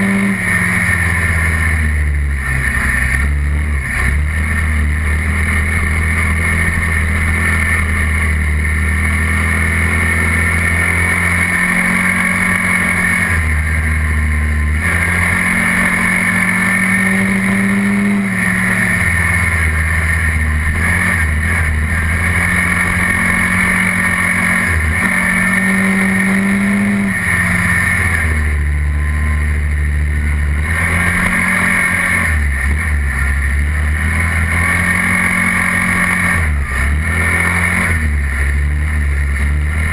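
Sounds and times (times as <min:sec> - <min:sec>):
atv engine revving: 0:00.0 - 0:39.9
steady rushing noise: 0:00.0 - 0:39.9.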